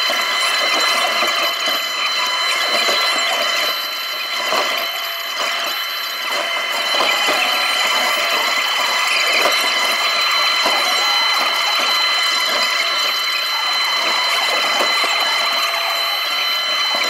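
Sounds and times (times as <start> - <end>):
high-pitched tones: 0.0 - 17.0
mini excavator running: 0.0 - 17.0.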